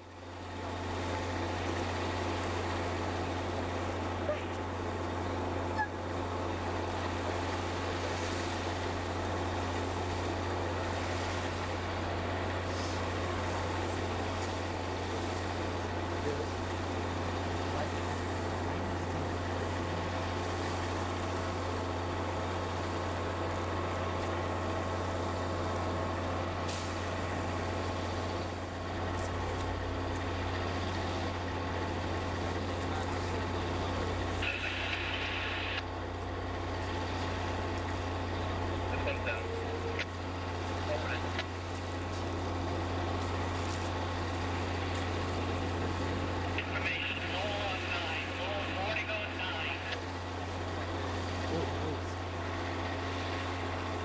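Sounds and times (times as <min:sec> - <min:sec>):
diesel locomotive droning: 0:00.0 - 0:54.0.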